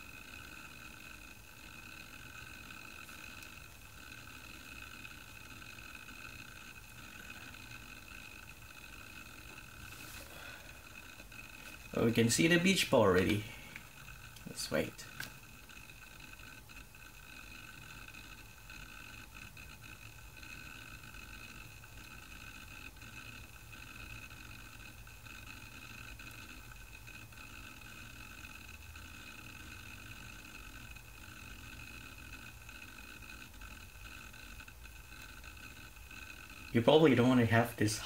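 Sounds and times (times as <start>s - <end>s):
hard drive seek clicks: 0.0s - 37.8s
hard drive high whine: 0.0s - 38.0s.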